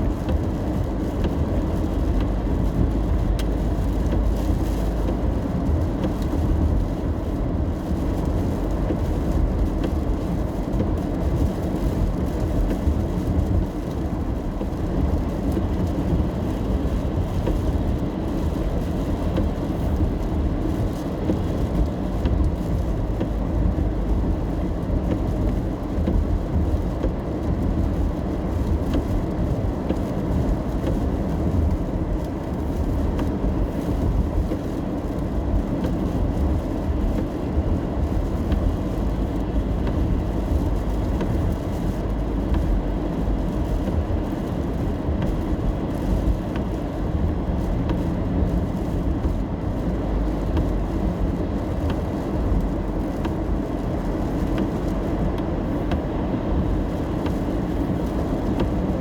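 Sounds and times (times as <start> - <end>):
car road noise in rain: 0.0 - 59.0.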